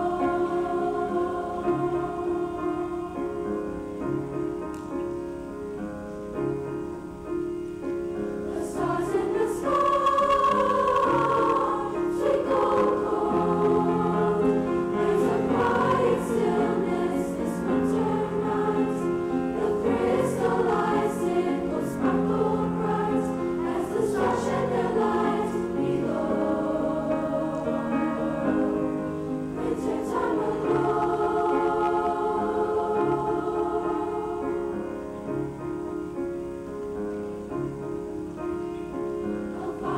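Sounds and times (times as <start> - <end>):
choir singing sustained chords: 0.0 - 4.5, 7.9 - 36.1, 37.9 - 39.9.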